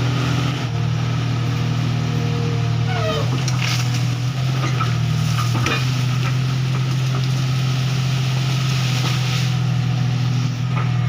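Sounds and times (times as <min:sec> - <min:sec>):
excavator diesel engine: 0:00.0 - 0:11.0.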